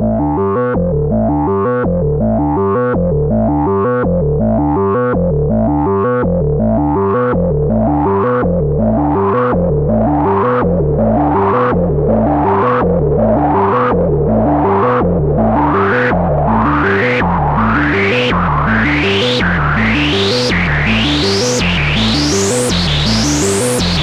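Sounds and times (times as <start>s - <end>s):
synthesiser bass pattern: 0.0s - 24.0s.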